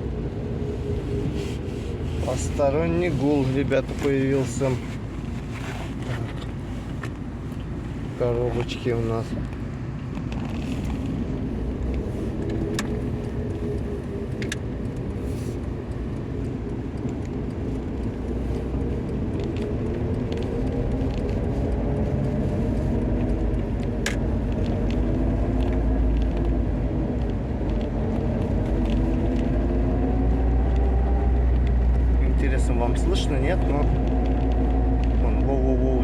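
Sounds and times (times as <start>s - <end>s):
road and engine rumble: 0.0s - 36.0s.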